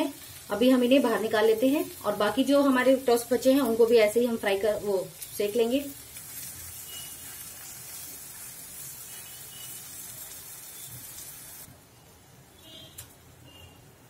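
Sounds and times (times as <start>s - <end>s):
butter sizzling: 0.0s - 11.7s.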